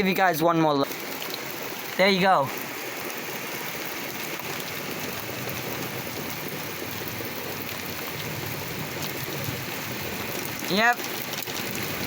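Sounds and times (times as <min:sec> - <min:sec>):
heavy rain and hail: 0:00.0 - 0:12.0.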